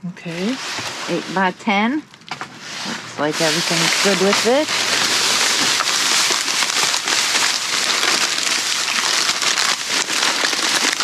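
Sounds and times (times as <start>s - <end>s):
plastic bags rustling and crinkling: 0.2s - 11.0s.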